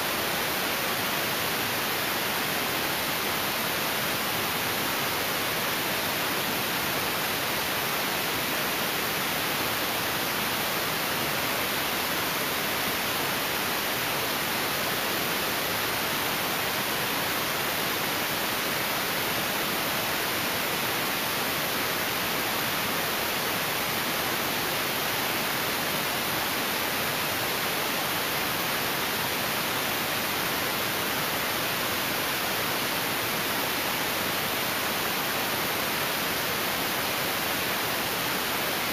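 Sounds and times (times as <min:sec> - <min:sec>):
steady static hiss: 0:00.0 - 0:38.9.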